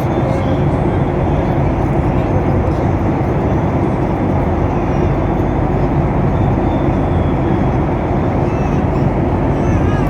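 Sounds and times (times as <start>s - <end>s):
airliner cabin engine roar: 0.0s - 10.0s.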